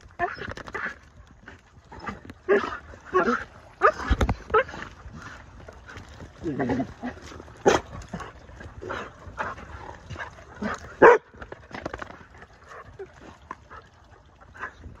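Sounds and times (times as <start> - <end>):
dogs barking in play: 0.1 - 15.0.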